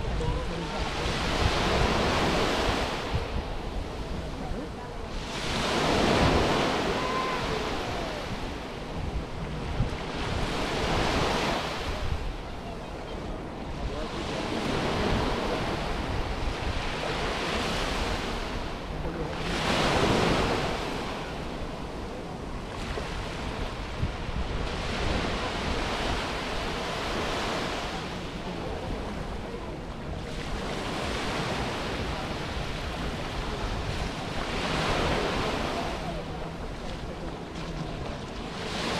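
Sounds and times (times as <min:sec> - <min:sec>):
sea waves washing on beach: 0:00.0 - 0:38.9.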